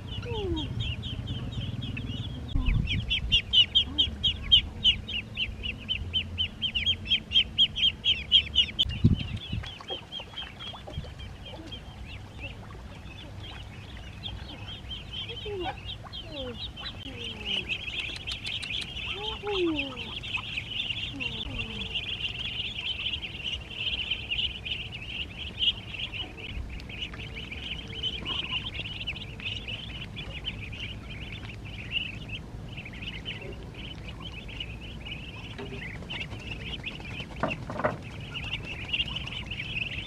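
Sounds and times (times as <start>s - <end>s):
ducklings peeping: 0.0s - 40.0s.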